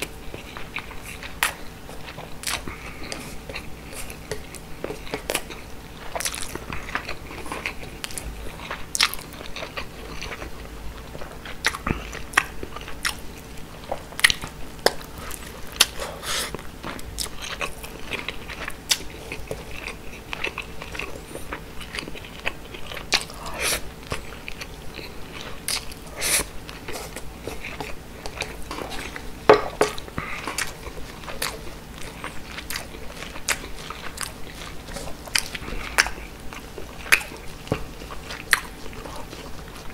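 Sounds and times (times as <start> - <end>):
close chewing with crunches: 0.0 - 39.9.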